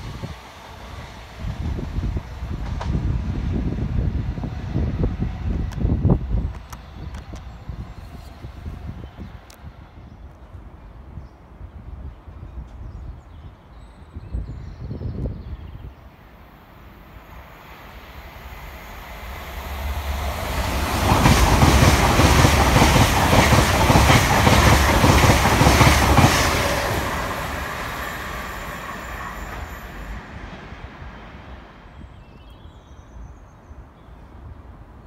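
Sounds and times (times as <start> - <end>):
train passing with rushing air: 0.0 - 13.6, 14.8 - 35.0.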